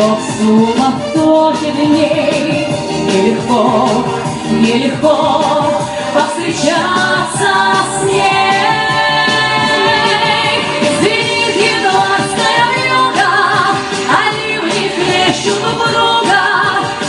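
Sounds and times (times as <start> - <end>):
instrumental backing: 0.0 - 17.0
woman singing pop song: 0.0 - 17.0.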